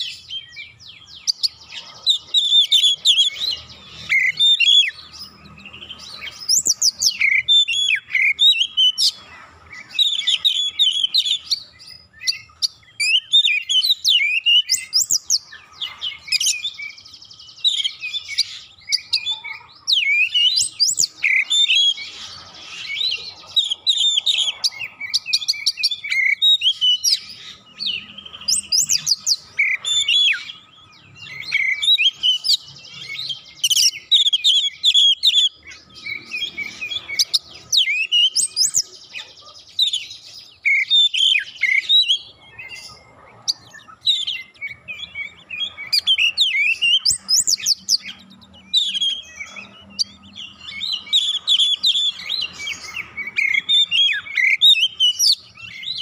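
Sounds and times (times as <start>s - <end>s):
songbird singing whistles and chatter: 0.0s - 56.0s.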